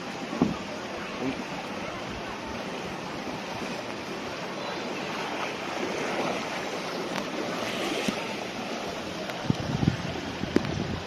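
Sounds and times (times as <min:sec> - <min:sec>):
floodwater sloshing and splashing: 0:00.0 - 0:11.0.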